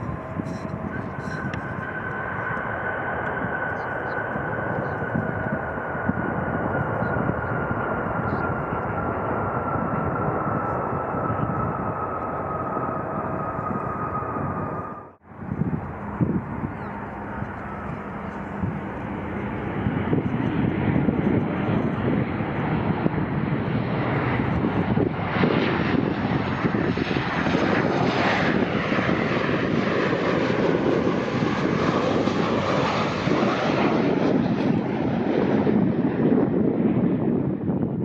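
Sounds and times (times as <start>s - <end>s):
jet airliner engines passing: 0.0s - 38.0s.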